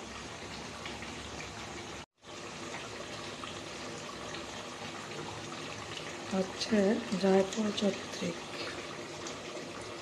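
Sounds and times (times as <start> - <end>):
curry sizzling in a pan: 0.0 - 10.0.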